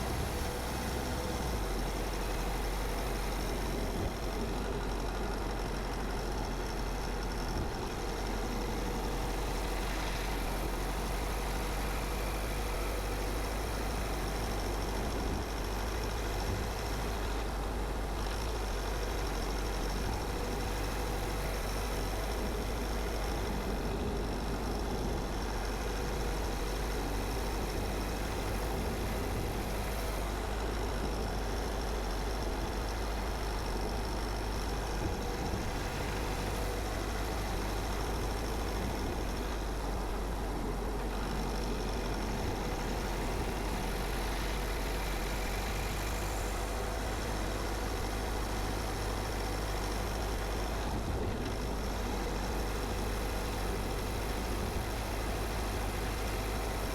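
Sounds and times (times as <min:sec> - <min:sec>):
car engine and tyres rumbling: 0:00.0 - 0:56.9
road noise hiss: 0:00.0 - 0:56.9.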